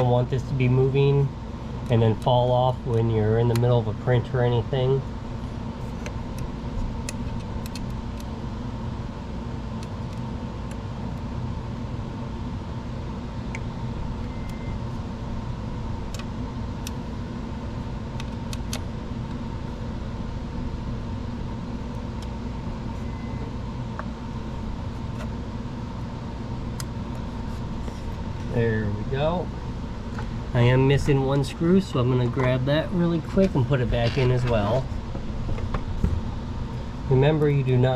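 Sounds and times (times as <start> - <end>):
machine hum: 0.0 - 37.9.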